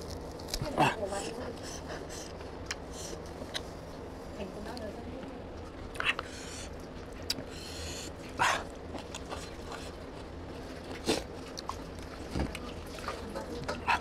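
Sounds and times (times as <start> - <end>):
chewing and lip-smacking: 0.0 - 3.7, 5.9 - 14.0.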